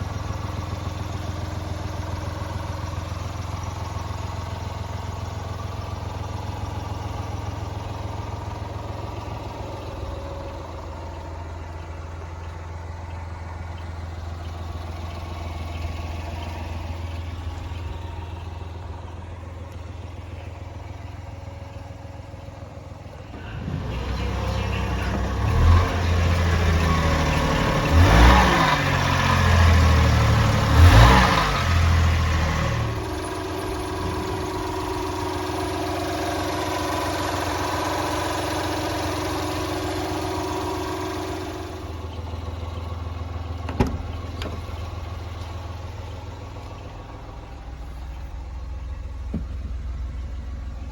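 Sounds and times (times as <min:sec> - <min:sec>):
small engine idling and revving: 0:00.0 - 0:50.9.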